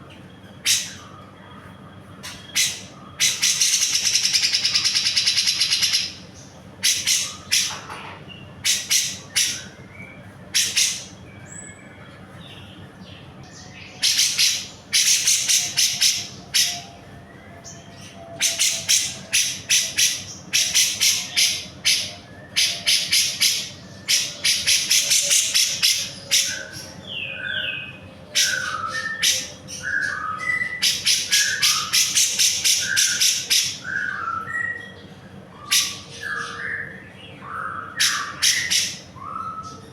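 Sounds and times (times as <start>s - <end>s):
bulbul harsh chattering calls: 0.6s - 1.1s, 2.2s - 9.8s, 10.5s - 11.3s, 13.6s - 16.9s, 17.6s - 39.9s.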